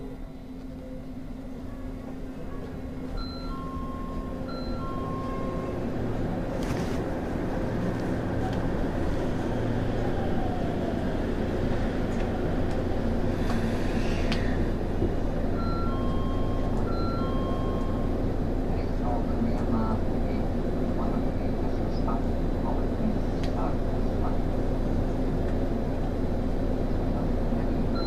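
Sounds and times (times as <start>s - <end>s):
train wheels rumbling on rail: 0.2s - 28.0s.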